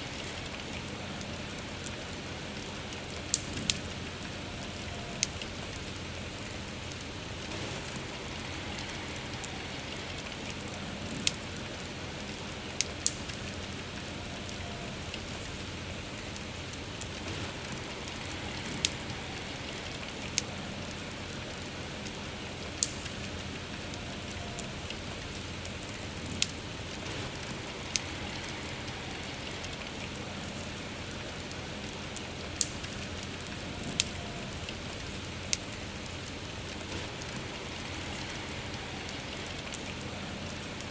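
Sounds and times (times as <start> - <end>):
campfire crackling and popping: 0.0 - 40.9
soft rain: 0.0 - 40.9.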